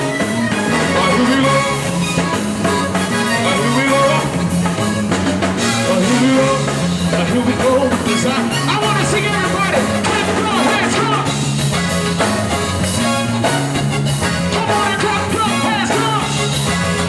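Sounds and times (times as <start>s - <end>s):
bass line: 0.0s - 17.0s
drums: 0.0s - 17.0s.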